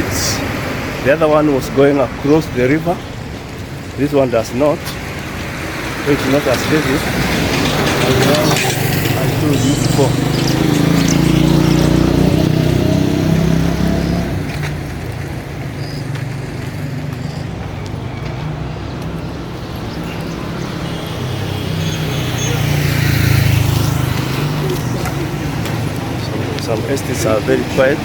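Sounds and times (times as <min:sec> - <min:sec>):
vehicle engine hum: 0:00.0 - 0:28.0.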